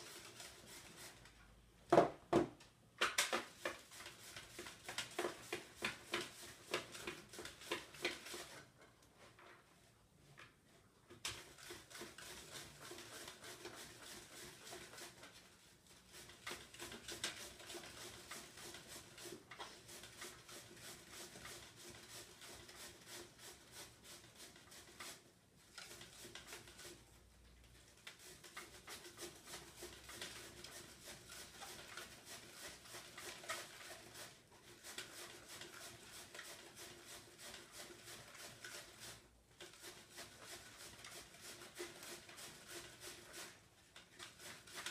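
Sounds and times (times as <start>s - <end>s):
cabbage rasping on grater: 0.0s - 1.4s, 3.3s - 8.6s, 11.4s - 27.1s, 27.8s - 44.9s.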